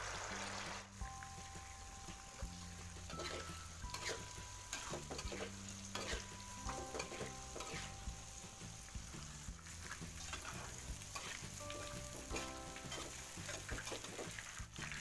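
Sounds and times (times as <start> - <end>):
tofu sizzling in hot oil: 0.0 - 15.0
metal spatula scraping wok: 2.8 - 15.0.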